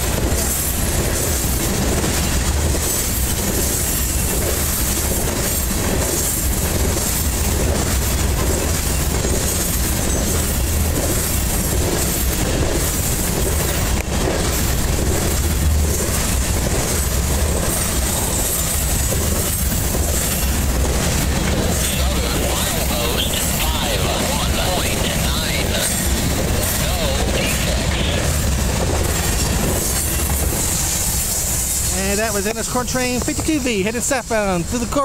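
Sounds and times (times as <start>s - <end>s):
train wheels rumbling on rails: 0.0s - 35.0s
wheels clickety-clack over track: 0.0s - 35.0s.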